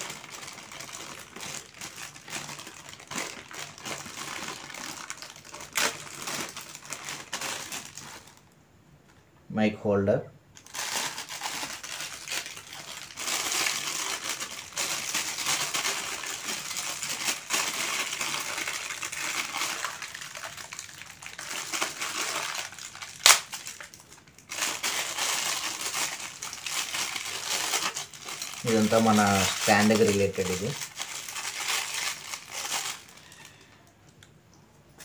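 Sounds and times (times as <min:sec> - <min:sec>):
plastic bags crinkling: 0:00.0 - 0:08.5, 0:10.6 - 0:33.8.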